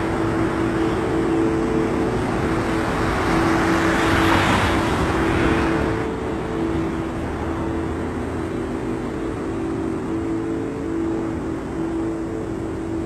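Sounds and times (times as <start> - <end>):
rushing noise: 0.0 - 13.0.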